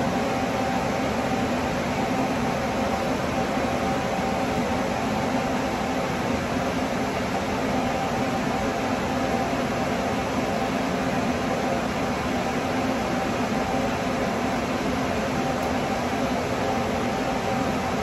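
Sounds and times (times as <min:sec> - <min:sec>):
ventilation fan running: 0:00.0 - 0:18.0.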